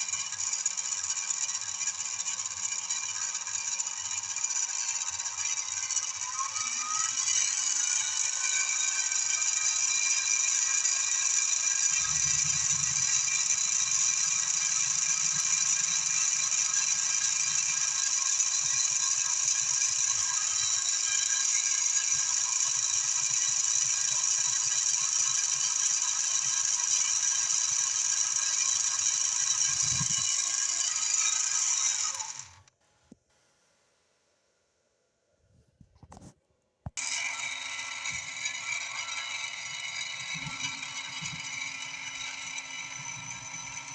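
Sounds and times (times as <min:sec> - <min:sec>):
electric machine tool whining: 0:00.0 - 0:32.7, 0:37.0 - 0:43.9
mechanical rattle: 0:00.0 - 0:32.7, 0:37.0 - 0:43.9.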